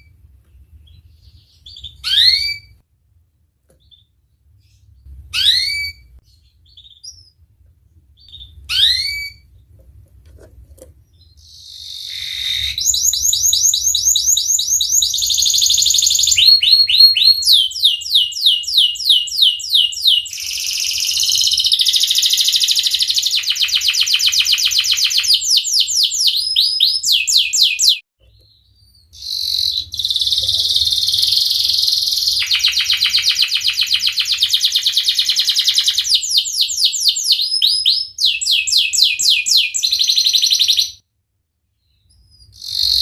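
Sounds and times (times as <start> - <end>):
canary singing: 0.0 - 2.8, 3.8 - 7.4, 8.2 - 9.6, 11.1 - 41.0, 41.9 - 43.0.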